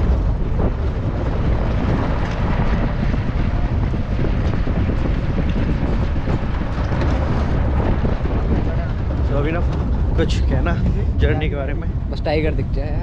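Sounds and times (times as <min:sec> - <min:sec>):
engine and tyre rumble: 0:00.0 - 0:13.0
wind buffeting microphone: 0:00.0 - 0:13.0.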